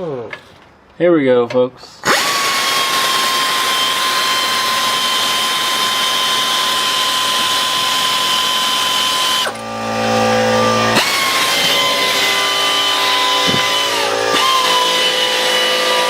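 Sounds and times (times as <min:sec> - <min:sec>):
air ratchet whining: 0:02.0 - 0:16.0.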